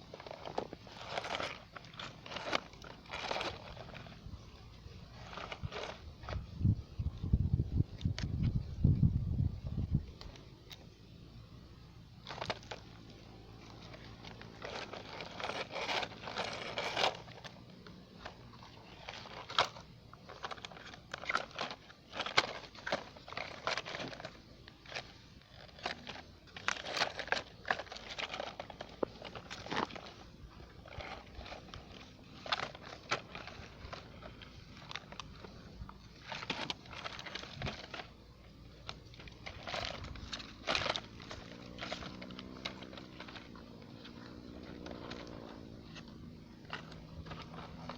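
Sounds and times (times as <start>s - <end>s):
bucket scraping soil: 0.0s - 6.7s, 12.2s - 47.9s.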